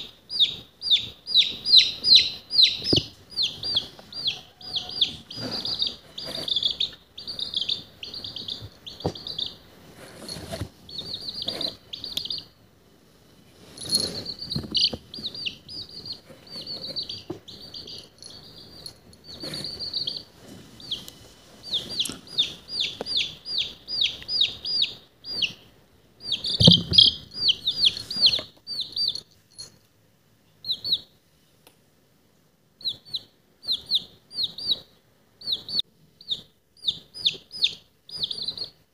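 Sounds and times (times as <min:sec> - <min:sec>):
baby chick peeping: 0:00.0 - 0:12.6, 0:13.5 - 0:29.8, 0:30.6 - 0:31.2, 0:32.8 - 0:38.9.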